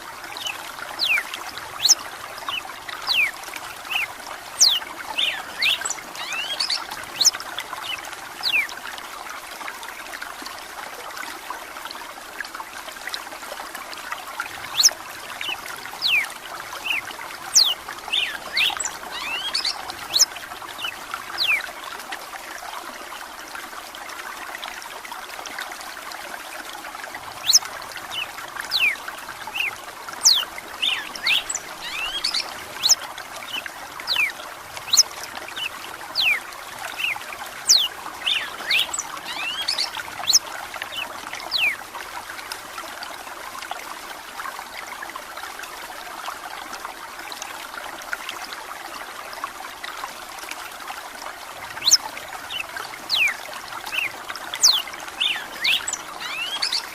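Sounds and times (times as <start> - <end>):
running water trickling: 0.0 - 56.9.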